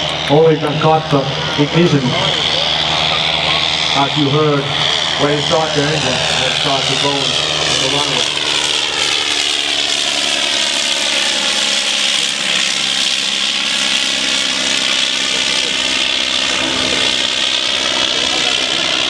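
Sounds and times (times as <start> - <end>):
aircraft engine and propeller: 0.0 - 19.0.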